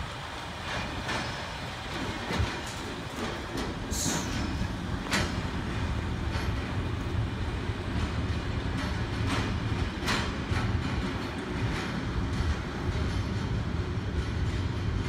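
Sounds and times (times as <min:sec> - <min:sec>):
freight train rumbling: 0:00.0 - 0:15.0
wheels clacking over rail joints: 0:00.0 - 0:15.0.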